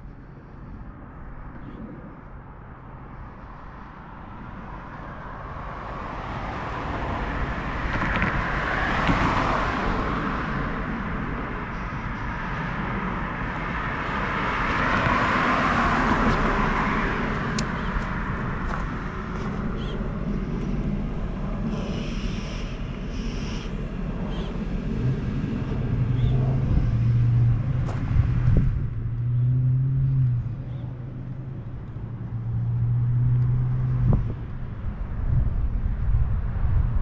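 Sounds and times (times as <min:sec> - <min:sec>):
cars passing on street: 0:00.0 - 0:37.0.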